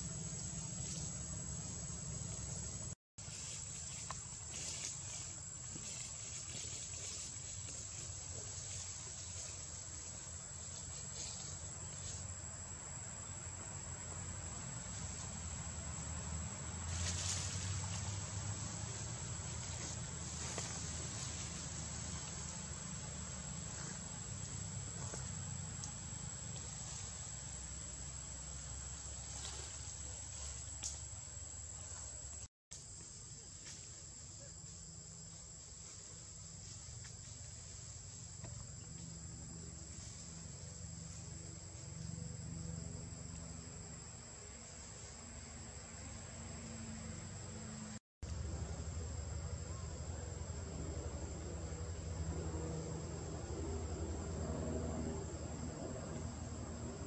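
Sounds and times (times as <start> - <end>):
insects: 0.0 - 57.0.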